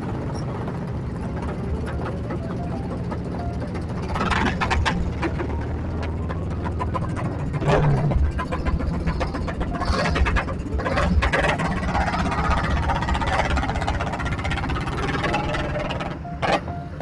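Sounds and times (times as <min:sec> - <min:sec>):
engine low rumble: 0:00.0 - 0:17.0
scattered clicks and knocks: 0:00.0 - 0:17.0.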